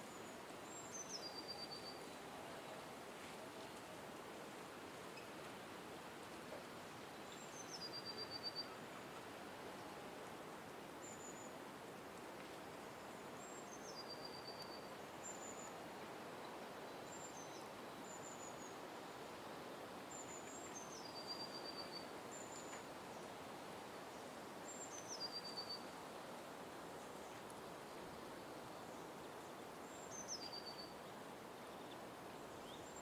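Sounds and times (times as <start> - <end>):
outdoor background hiss: 0.0 - 33.0.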